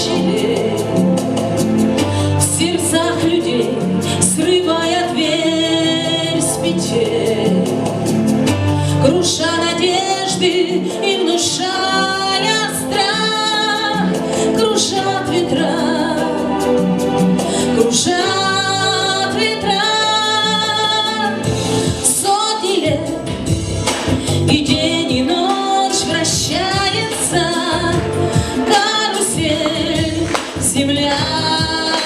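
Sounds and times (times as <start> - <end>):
woman singing: 0.0 - 1.2, 2.2 - 8.0, 9.0 - 32.0
instrumental backing track with beat: 0.0 - 32.0.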